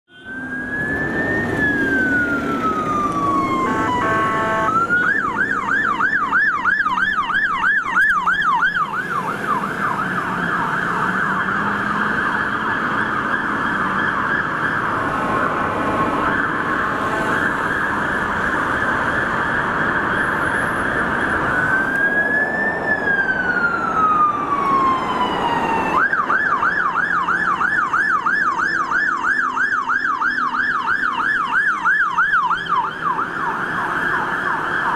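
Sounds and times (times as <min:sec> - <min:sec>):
fire engine siren wail and yelp: 0:00.1 - 0:34.9.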